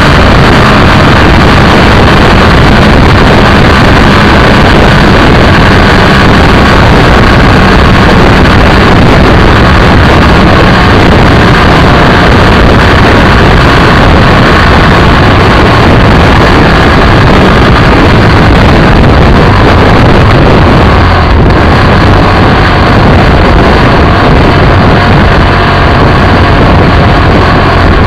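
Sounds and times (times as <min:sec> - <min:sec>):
motorcycle engine running: 0:00.0 - 0:28.0
rush of wind and road noise: 0:00.0 - 0:28.0.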